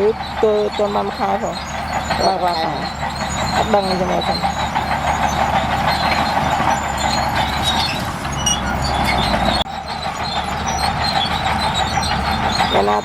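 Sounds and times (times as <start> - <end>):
heavy machinery diesel engine running: 0.0 - 13.0.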